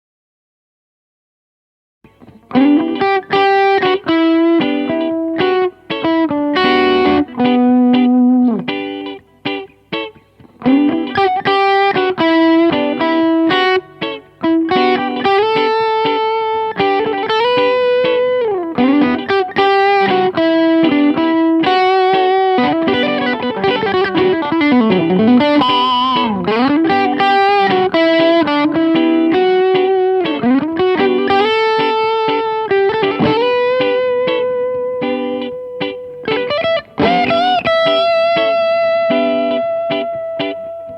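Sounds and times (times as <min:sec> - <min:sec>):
electric guitar melody: 0:02.0 - 0:40.9.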